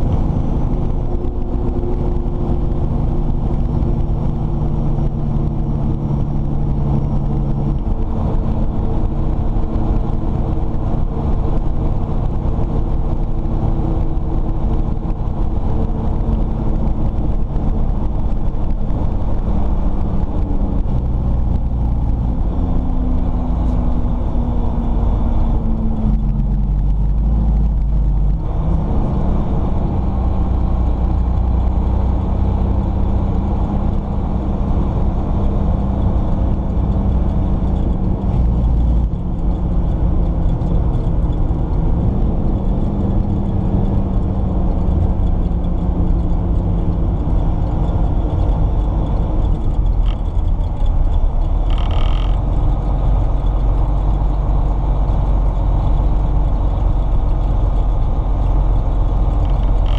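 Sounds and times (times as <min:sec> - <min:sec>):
diesel engine drone: 0:00.0 - 0:59.9
road noise: 0:00.0 - 0:59.9.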